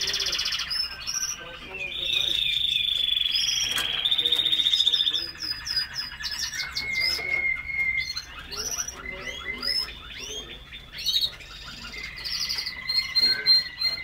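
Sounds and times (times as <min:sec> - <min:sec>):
canaries singing: 0:00.0 - 0:14.0.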